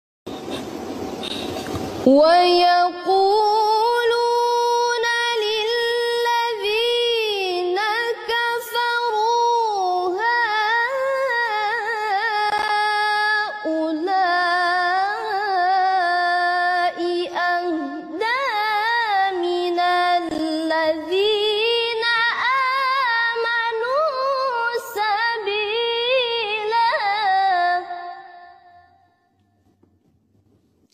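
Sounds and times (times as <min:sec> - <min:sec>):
woman reciting melodically: 0:00.6 - 0:28.9.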